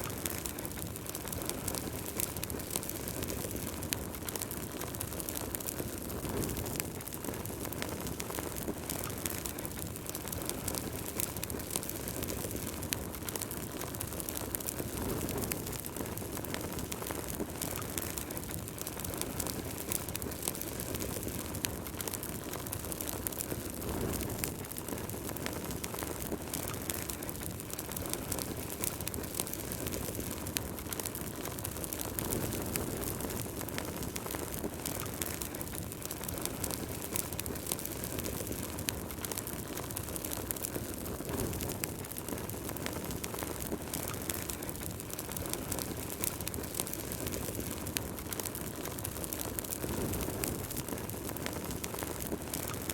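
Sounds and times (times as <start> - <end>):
low rush of flame: 0.0 - 52.9
wood fire crackling and popping: 0.0 - 52.9.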